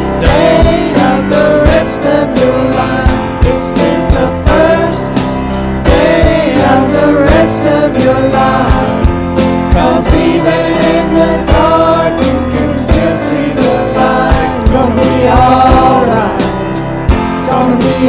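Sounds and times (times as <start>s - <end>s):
band accompaniment: 0.0s - 18.0s
praise team singing: 0.0s - 18.0s
steady drum beat: 0.0s - 18.0s.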